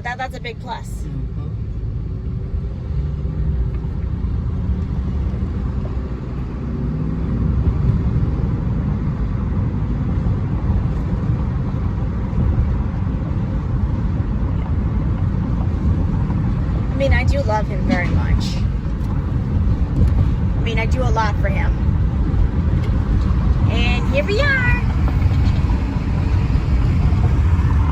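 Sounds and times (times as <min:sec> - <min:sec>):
road and engine noise in car: 0:00.0 - 0:27.9.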